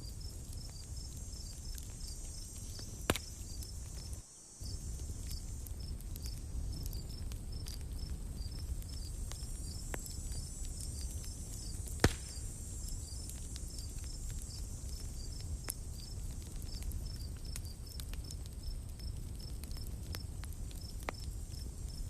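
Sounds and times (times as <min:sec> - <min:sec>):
campfire crackling: 0:00.0 - 0:22.0
insects chirping: 0:00.0 - 0:22.0.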